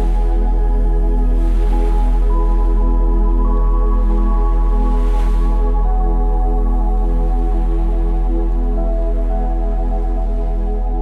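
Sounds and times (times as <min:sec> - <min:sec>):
soft ambient synth music: 0:00.0 - 0:11.0.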